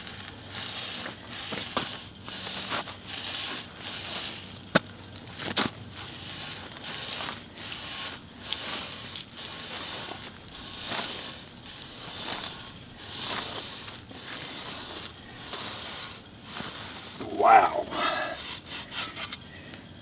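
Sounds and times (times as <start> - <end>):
metal scraping through dirt: 0.0 - 20.0.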